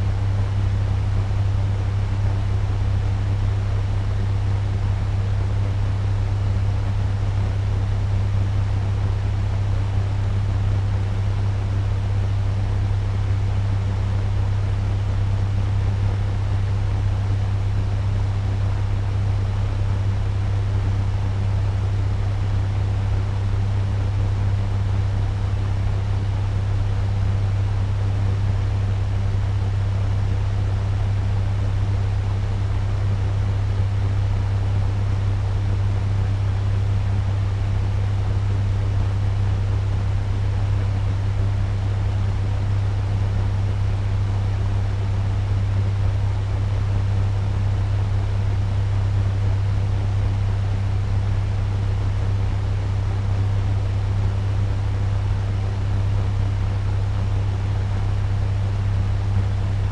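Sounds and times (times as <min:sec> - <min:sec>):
fan running with low hum: 0:00.0 - 0:59.9.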